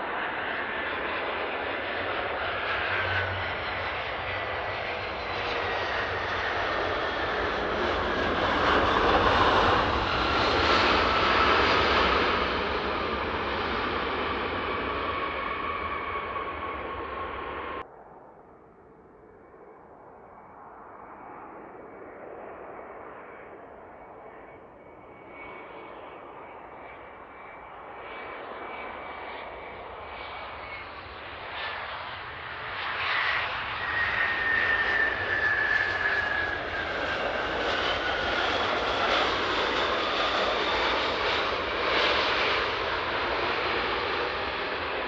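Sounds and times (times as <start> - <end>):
jet engines whining on landing: 0.0 - 18.2, 19.1 - 45.0
rush of jet engine noise: 0.0 - 18.5, 19.1 - 45.0.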